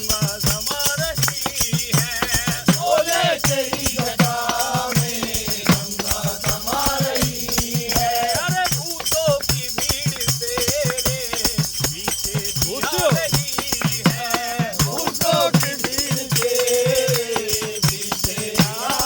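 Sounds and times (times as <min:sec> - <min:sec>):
drum beat: 0:00.0 - 0:19.0
men singing devotional song: 0:00.0 - 0:19.0
rattling percussion: 0:00.0 - 0:19.0.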